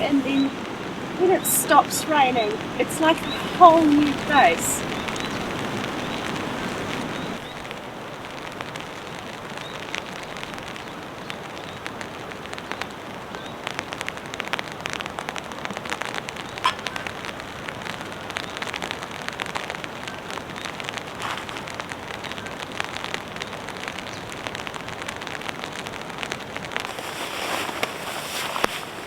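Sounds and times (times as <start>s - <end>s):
rain hiss: 0.0s - 29.0s
raindrops pattering on a surface: 0.0s - 29.0s.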